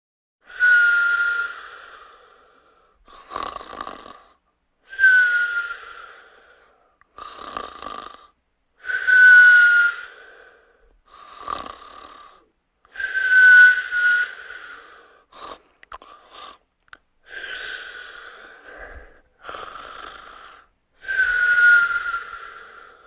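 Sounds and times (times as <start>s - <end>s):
high whistling breath: 0.4s - 3.5s, 4.8s - 7.2s, 8.8s - 16.6s, 17.2s - 23.0s
person snoring: 1.2s - 4.4s, 5.6s - 9.1s, 9.9s - 13.2s, 13.8s - 23.0s.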